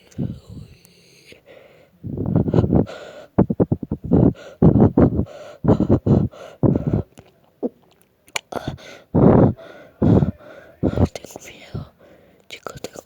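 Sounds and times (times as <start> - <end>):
person breathing heavily: 0.0 - 7.2, 8.5 - 12.4.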